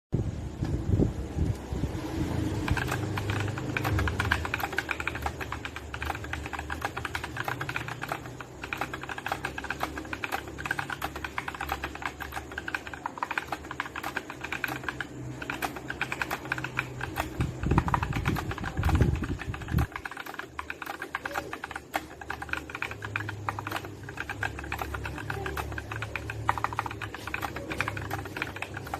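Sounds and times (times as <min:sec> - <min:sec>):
rapid mechanical keyboard typing: 0:02.1 - 0:28.9.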